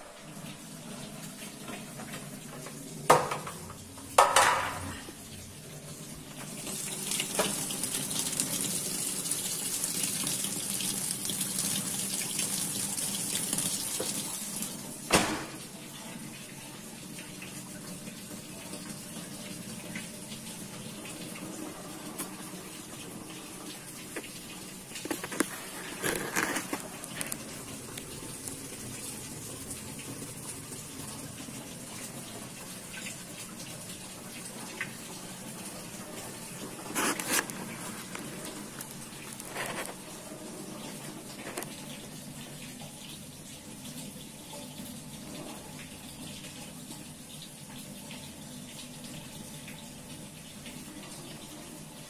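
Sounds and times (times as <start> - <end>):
water filling washing machine: 0.0 - 52.0.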